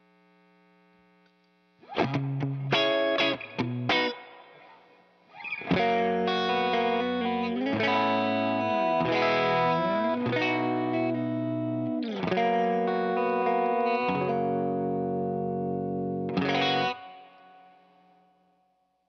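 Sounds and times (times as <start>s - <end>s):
electric guitar chords: 1.8s - 18.4s.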